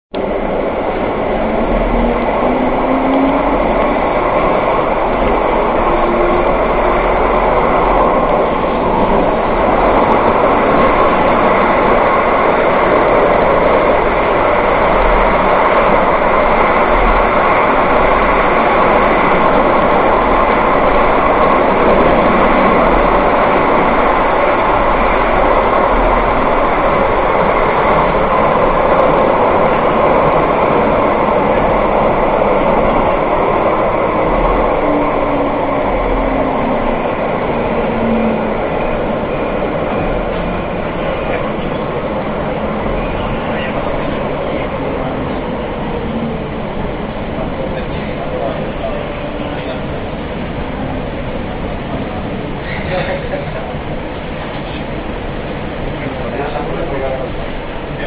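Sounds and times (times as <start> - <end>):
train wheels rumbling on rails: 0.1 - 58.0
faint train whine: 0.2 - 58.0.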